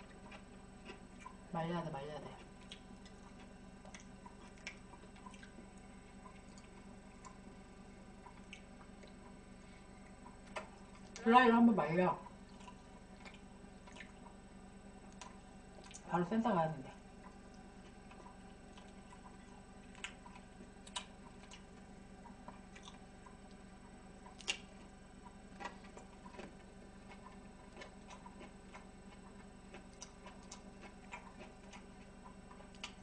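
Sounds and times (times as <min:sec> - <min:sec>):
person chewing food: 0:00.0 - 0:01.5, 0:02.3 - 0:11.2, 0:12.2 - 0:16.1, 0:17.0 - 0:33.0
low steady hum: 0:00.0 - 0:33.0.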